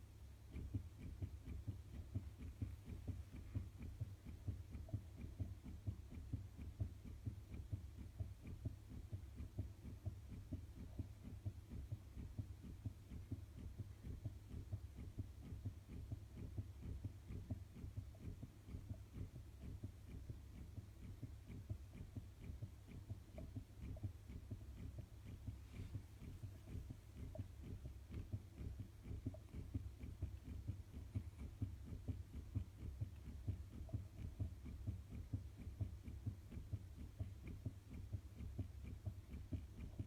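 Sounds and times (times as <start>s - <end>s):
fetal heartbeat on doppler monitor: 0.0s - 40.0s.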